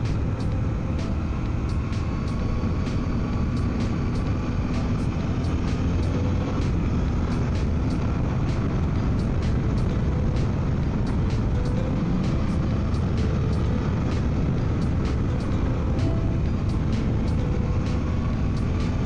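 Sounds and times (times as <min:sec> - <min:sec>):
heavy wind: 0:00.0 - 0:19.0
motorcycle engine cruising: 0:00.0 - 0:19.0
road rumble: 0:00.0 - 0:19.0.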